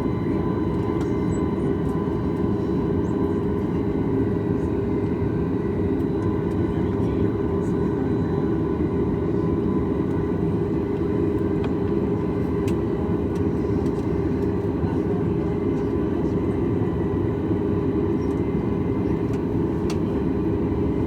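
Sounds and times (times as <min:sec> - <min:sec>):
aircraft cabin rumble: 0:00.0 - 0:21.0
faint high engine whine: 0:00.0 - 0:21.0.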